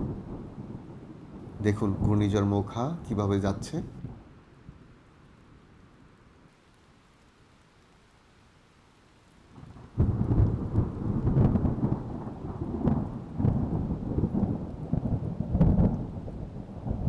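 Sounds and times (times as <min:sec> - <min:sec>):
faint crackle: 0:00.0 - 0:17.0.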